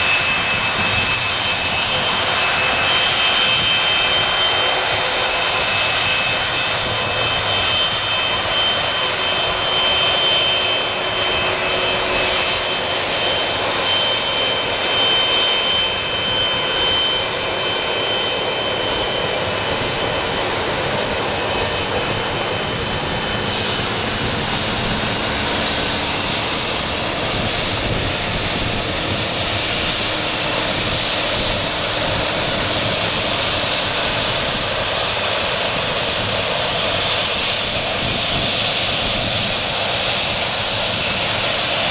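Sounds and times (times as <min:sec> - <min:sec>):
jet engine rumble and hiss: 0:00.0 - 0:41.9.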